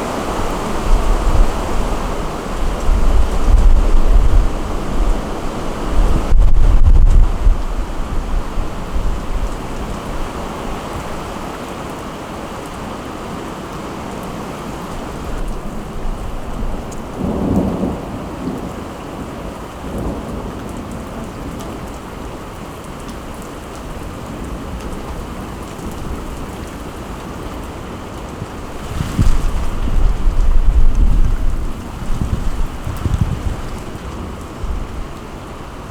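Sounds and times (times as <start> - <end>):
rain pattering: 0.0 - 35.9.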